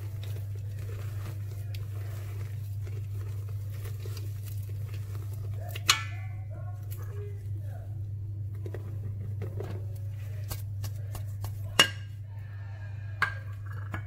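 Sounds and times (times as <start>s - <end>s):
spatula folding batter: 0.0s - 14.0s
steady low hum: 0.0s - 14.0s.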